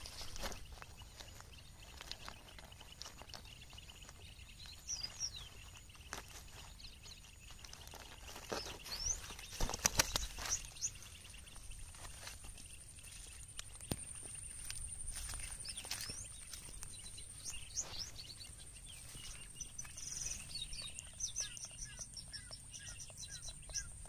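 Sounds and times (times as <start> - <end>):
rustles and clicks handling fish: 0.0 - 22.4
bird chirps: 0.0 - 24.0.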